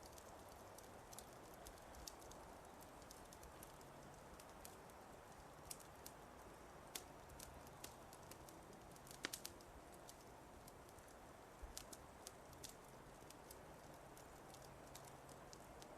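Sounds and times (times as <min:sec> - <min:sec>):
low hiss: 0:00.0 - 0:15.9
wood fire crackling faintly: 0:00.0 - 0:15.9.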